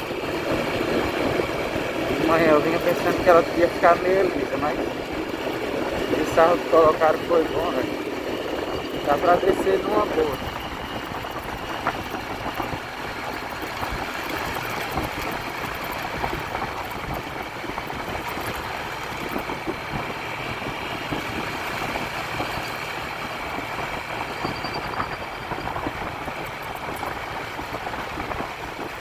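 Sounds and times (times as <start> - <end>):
tyres rumbling on dirt road: 0.0 - 29.0
vehicle engine running: 0.0 - 29.0.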